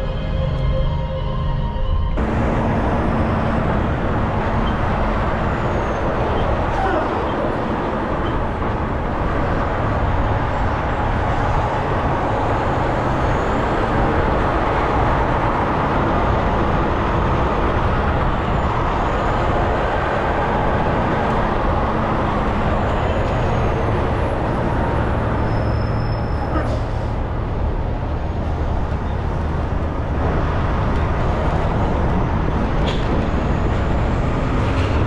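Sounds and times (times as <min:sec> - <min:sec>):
truck engine and road rumble: 0:00.0 - 0:35.0.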